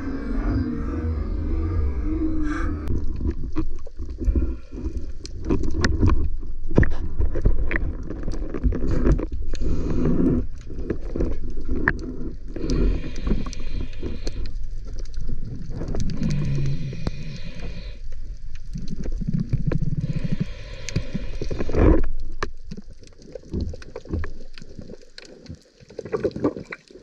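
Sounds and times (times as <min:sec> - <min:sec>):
water sloshing underwater: 0:00.0 - 0:27.0.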